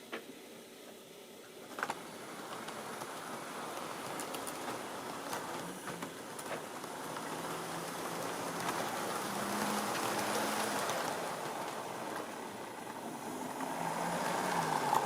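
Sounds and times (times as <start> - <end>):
model train wheels on rail: 0.0 - 15.0.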